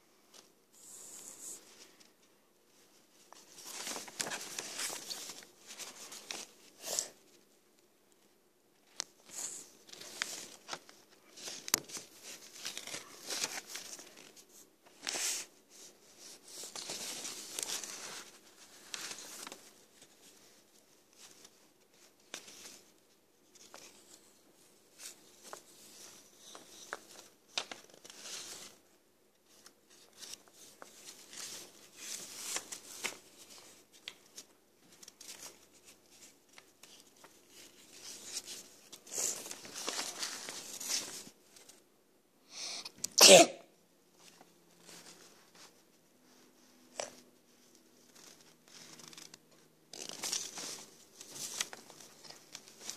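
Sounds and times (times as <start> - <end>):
paper rustling: 0.3 - 7.5, 8.8 - 41.8, 44.2 - 52.9.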